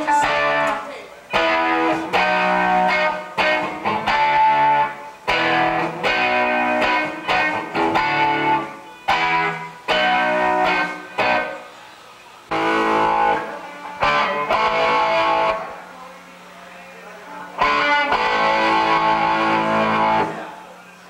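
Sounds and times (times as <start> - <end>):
electric guitar strumming chords: 0.0 - 11.8, 12.5 - 15.8, 17.4 - 20.5.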